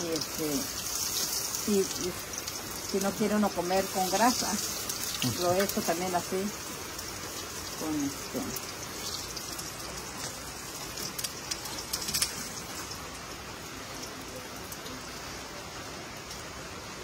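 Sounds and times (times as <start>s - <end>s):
oil crackling and popping: 0.0s - 15.3s
food frying in hot oil: 0.0s - 17.0s.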